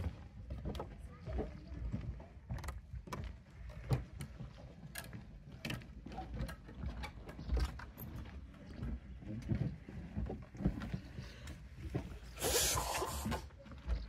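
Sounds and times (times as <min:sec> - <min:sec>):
footsteps on wooden boards: 0:00.0 - 0:14.0.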